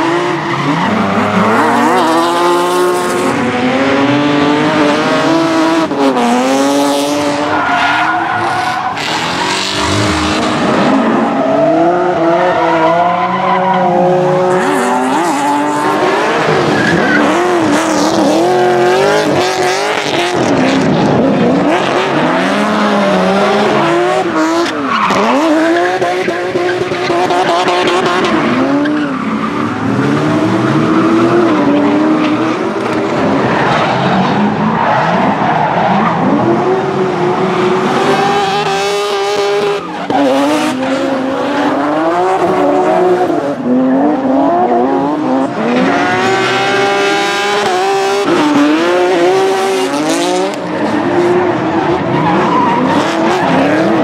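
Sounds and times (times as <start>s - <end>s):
car engines revving high: 0.0s - 54.0s.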